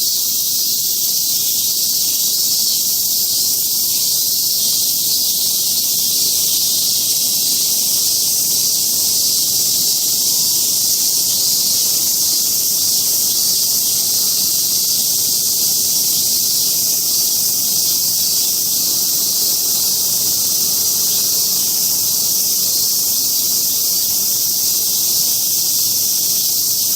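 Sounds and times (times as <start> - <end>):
cicadas buzzing: 0.0 - 26.9.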